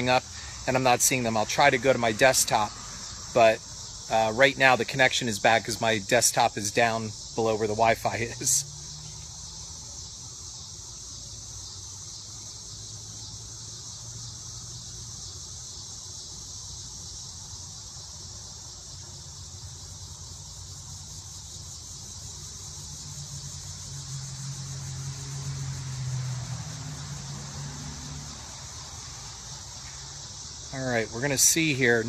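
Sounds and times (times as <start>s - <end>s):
crickets and insects chirping: 0.0s - 32.0s.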